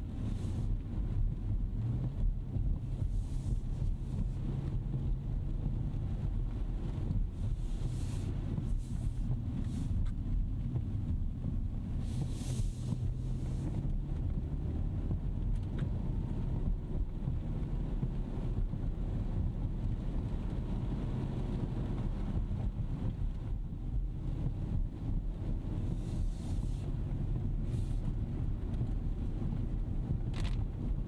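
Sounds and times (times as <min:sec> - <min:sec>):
road and tyre rumble: 0:00.0 - 0:31.0.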